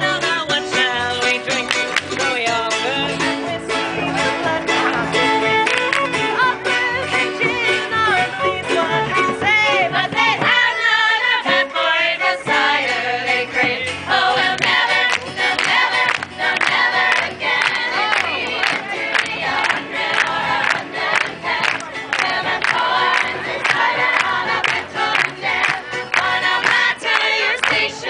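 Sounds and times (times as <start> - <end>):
voices singing together: 0.0 - 5.6, 6.2 - 28.0
string instruments playing: 0.0 - 28.0.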